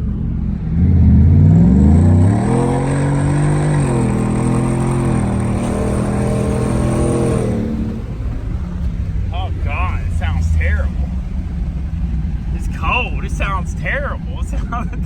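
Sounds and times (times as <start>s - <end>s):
truck engine accelerating: 0.0s - 15.0s.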